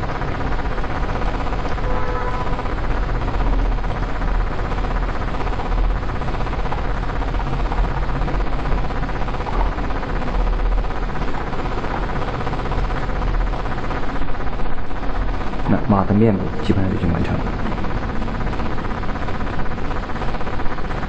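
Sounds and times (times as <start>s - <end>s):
faint steady whine: 0.0s - 21.0s.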